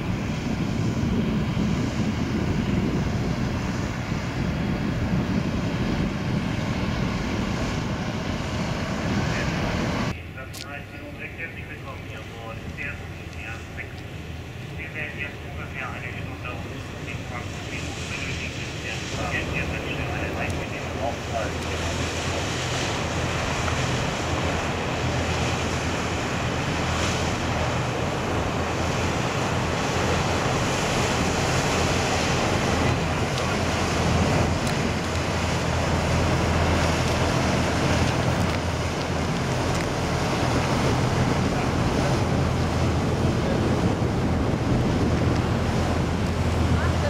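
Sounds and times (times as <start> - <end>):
wind on microphone: 0.0 - 10.2, 12.1 - 47.0
ferry engines droning: 0.0 - 47.0
rushing water: 0.0 - 47.0.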